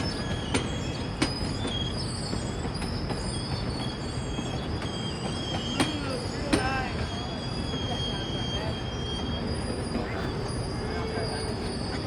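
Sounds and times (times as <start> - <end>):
rail clacks: 0.0 - 12.0
train rumble: 0.0 - 12.0
train wheels squealing: 0.0 - 12.0.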